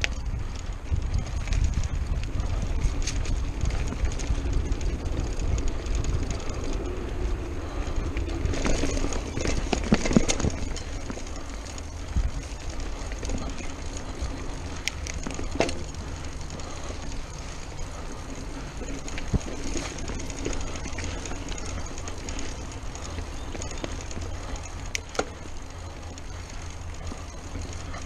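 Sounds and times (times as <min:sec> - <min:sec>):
bike rattling: 0:00.0 - 0:28.0
bike tyres rolling on dirt: 0:00.0 - 0:28.0
wind rumble on camera: 0:00.0 - 0:28.0.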